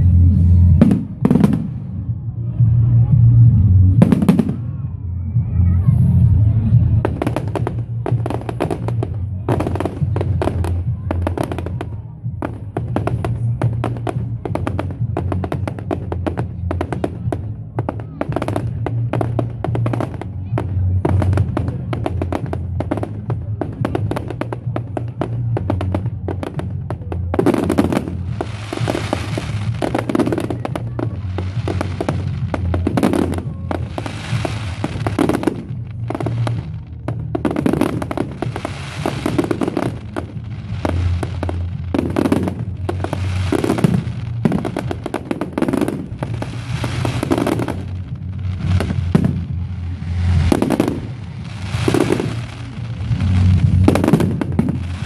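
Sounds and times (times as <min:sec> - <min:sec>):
fireworks crackling: 0:00.0 - 0:04.8, 0:05.8 - 0:55.0
music with steady bass: 0:00.0 - 0:55.0.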